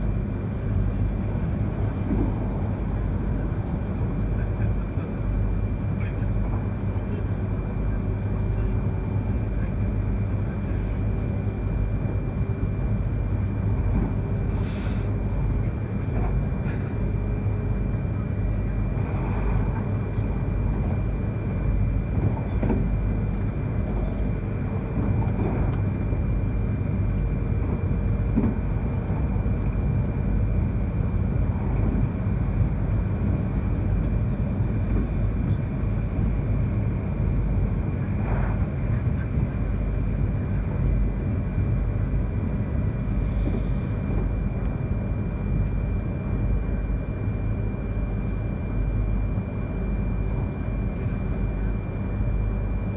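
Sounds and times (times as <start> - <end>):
rumble of train wheels on rail: 0.0 - 52.9.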